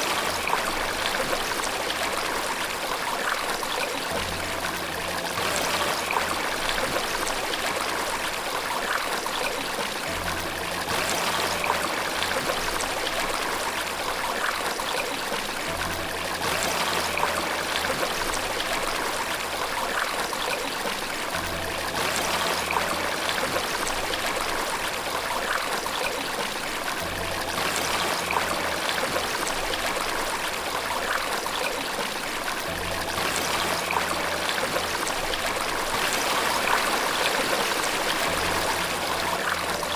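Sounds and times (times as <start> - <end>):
water splashing in a stream: 0.0 - 39.9.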